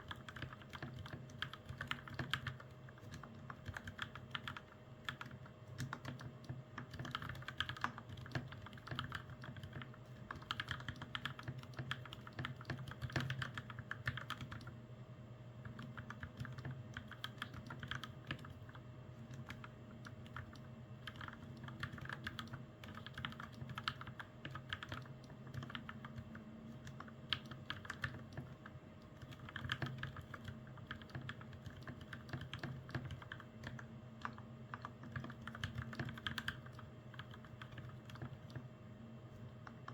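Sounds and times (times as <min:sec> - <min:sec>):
mechanical keyboard typing: 0:00.0 - 0:14.7, 0:15.6 - 0:38.7.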